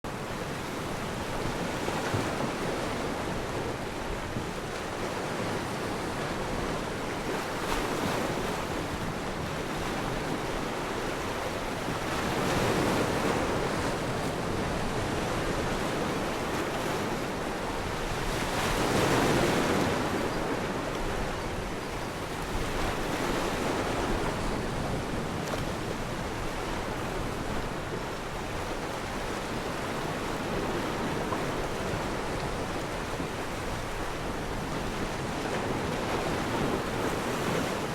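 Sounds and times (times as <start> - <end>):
surf breaking on shore: 0.1 - 37.9.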